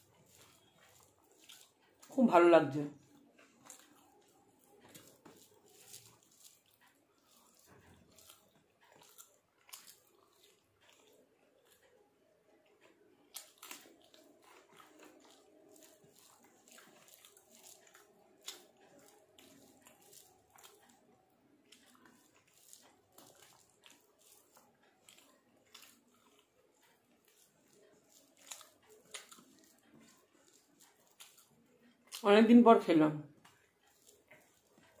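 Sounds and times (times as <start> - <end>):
person chewing: 0.0 - 32.2, 33.4 - 35.0.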